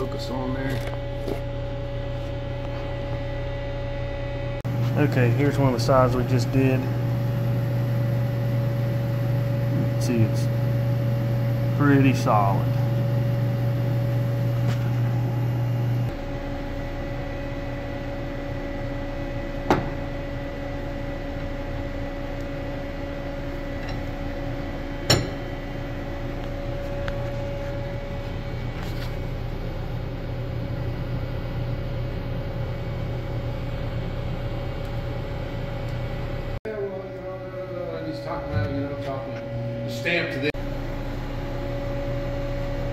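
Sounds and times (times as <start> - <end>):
machine hum with held tones: 0.0 - 42.9.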